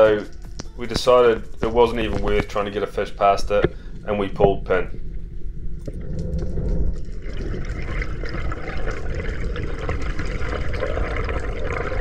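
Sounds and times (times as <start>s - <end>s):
water rushing on microphone: 1.6s - 12.0s.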